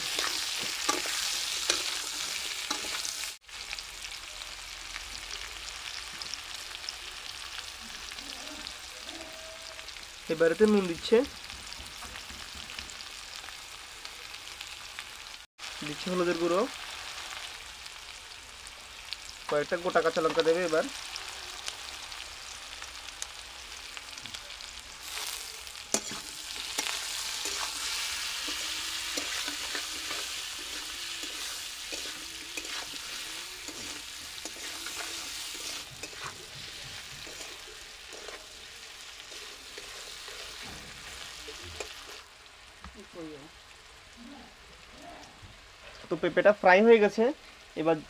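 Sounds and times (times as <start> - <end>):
fruit sizzling in hot oil: 0.0 - 48.0.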